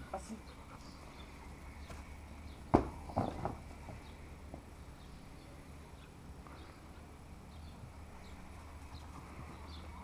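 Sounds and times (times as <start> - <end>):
low outdoor rumble: 0.0 - 10.0
small birds chirping: 0.0 - 10.0.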